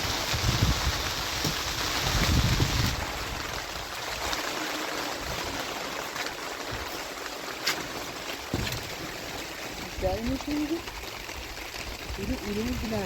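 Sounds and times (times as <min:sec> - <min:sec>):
running water: 0:00.0 - 0:13.0
steady rain: 0:00.0 - 0:13.0.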